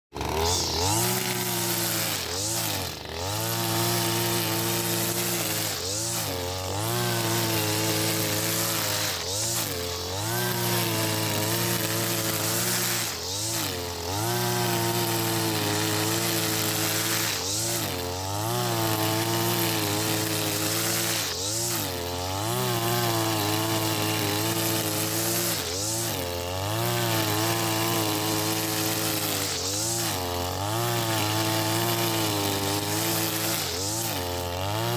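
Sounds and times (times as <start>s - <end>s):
brush cutter running at high revs: 0.1s - 34.9s
trimmer line cutting grass: 0.1s - 34.9s.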